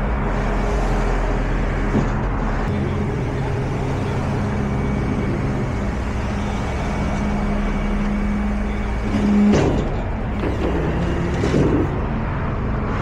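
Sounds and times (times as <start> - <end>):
truck engine running: 0.0 - 12.8.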